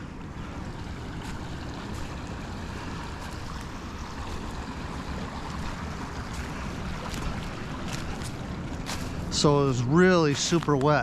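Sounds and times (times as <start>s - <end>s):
water rushing into drain: 0.0s - 9.8s
wind rumble on microphone: 0.0s - 11.0s.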